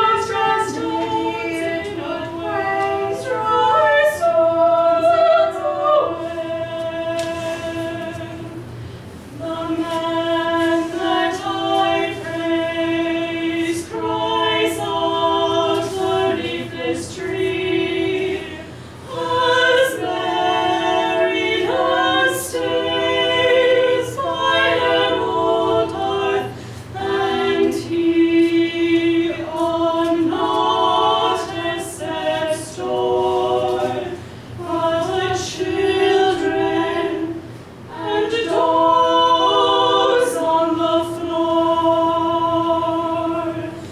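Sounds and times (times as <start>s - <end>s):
group of voices singing in harmony: 0.0s - 43.9s.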